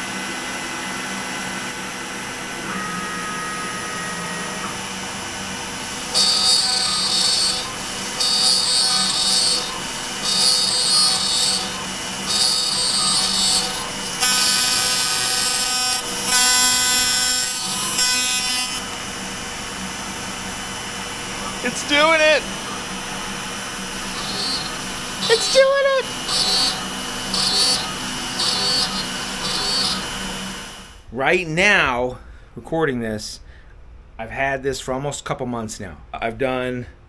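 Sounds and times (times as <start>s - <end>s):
router cutting wood: 0.0s - 31.0s
dust-collection vacuum: 0.0s - 31.1s
spinning router drone: 0.0s - 31.1s.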